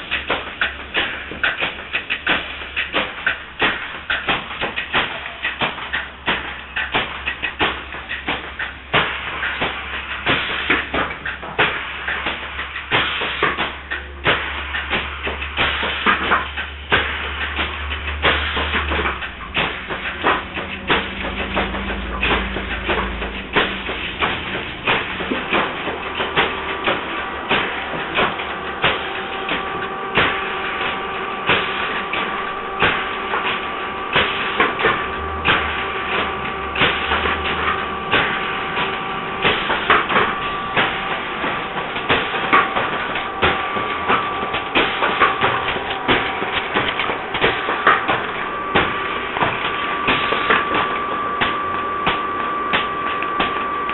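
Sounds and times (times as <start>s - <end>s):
steady humming tone: 0.0s - 53.9s.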